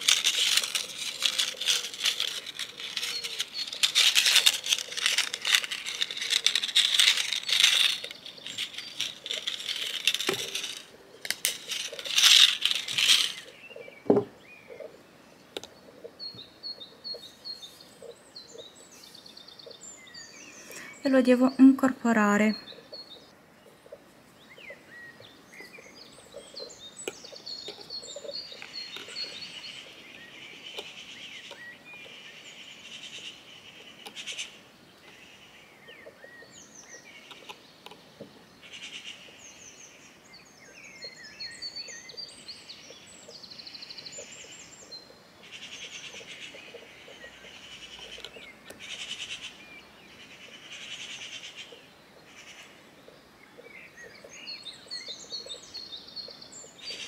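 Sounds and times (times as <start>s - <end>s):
faint outdoor hiss: 0.0s - 57.0s
songbirds chirping and singing: 0.0s - 57.0s.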